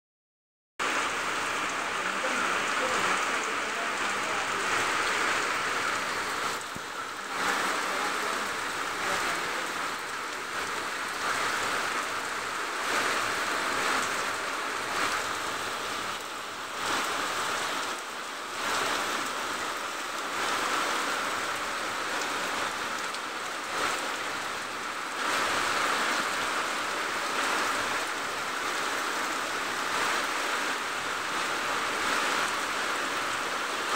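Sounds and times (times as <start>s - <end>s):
heavy rain on foliage: 0.8s - 33.9s.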